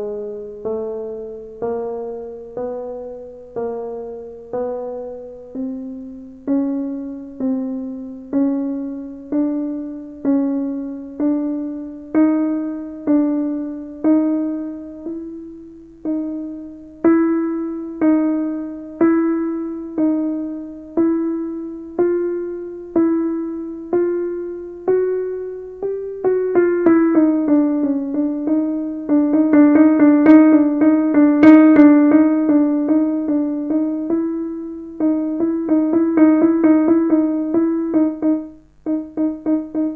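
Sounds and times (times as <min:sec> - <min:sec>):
digital piano notes: 0:00.0 - 0:39.9.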